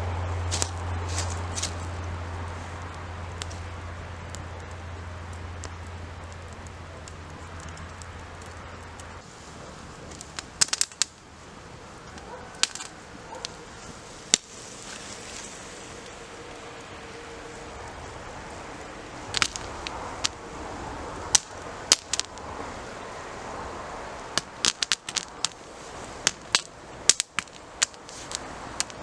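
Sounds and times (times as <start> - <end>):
campfire crackling: 0.0 - 29.0
loud sharp fire pops: 0.4 - 15.6, 17.7 - 20.6, 21.2 - 23.0, 24.1 - 29.0.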